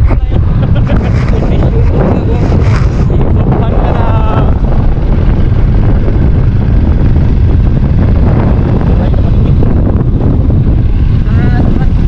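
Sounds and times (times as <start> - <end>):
motorcycle engine: 0.0 - 12.0
road noise: 0.0 - 12.0
wind buffeting microphone: 0.0 - 12.0.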